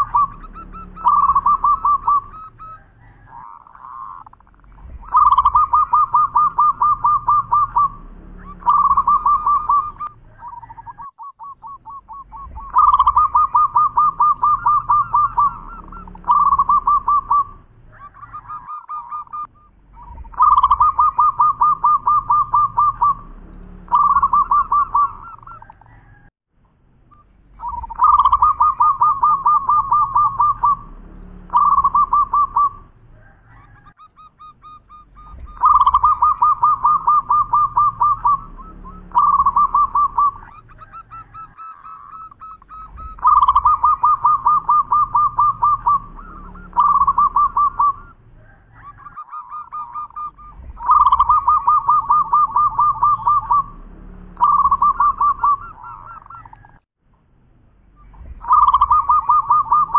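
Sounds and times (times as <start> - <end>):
dove cooing song: 0.0 - 26.3, 27.2 - 56.9, 58.0 - 59.9.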